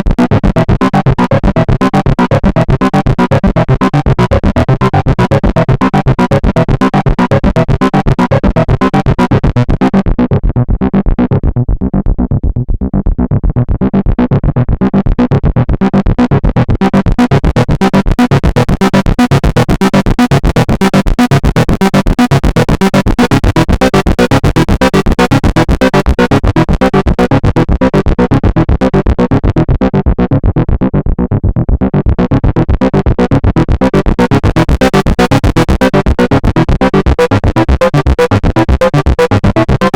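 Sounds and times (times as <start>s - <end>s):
synthesizer repeated note sequence: 0.0s - 39.9s.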